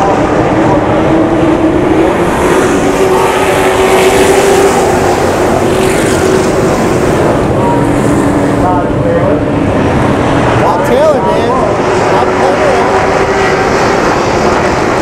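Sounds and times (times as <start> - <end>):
race truck engine running hard: 0.0 - 15.0.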